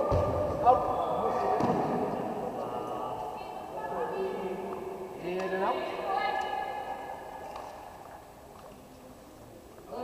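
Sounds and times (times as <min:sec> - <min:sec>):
low hall murmur: 0:00.0 - 0:10.0.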